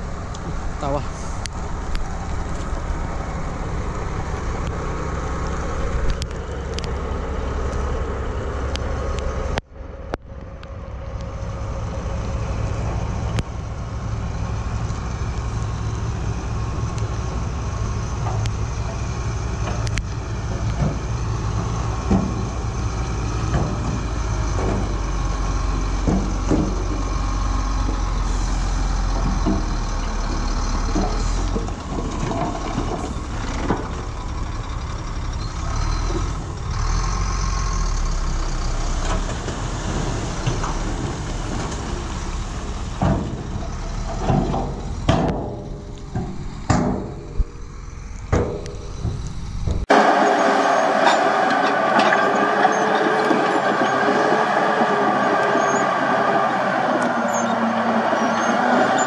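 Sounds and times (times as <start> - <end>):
diesel engines rumbling: 0.0 - 59.0.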